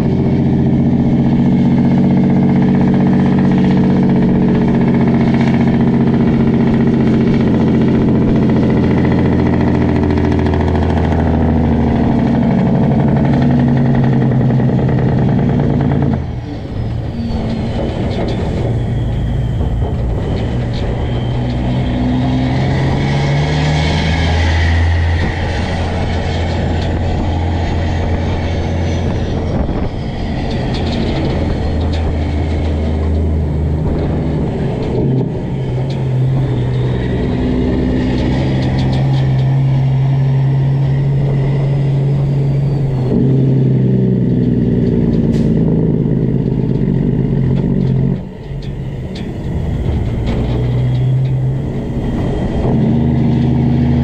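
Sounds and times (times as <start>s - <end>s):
diesel truck engine running hard: 0.0s - 54.0s.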